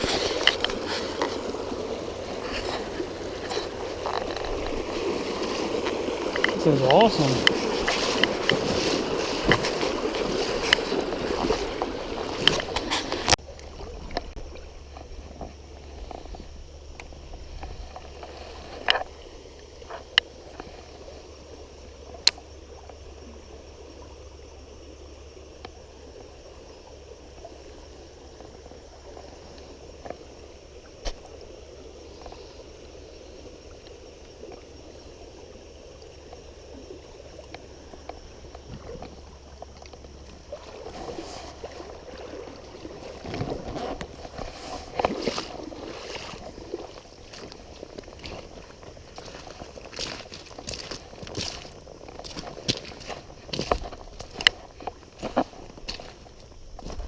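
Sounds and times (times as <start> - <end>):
river flowing: 0.0 - 57.0
water splashing and sloshing: 0.0 - 57.0.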